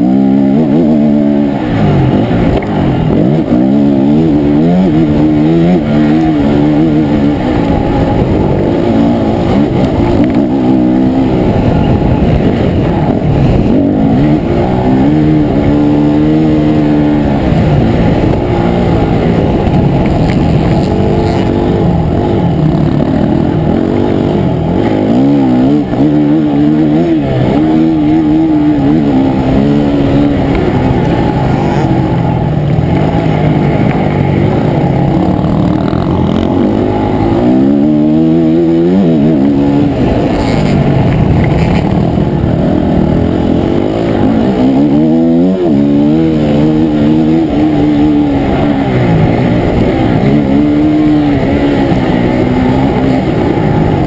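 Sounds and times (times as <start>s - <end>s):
dirt bike engine revving: 0.0s - 54.0s
steady rushing noise: 0.0s - 54.0s.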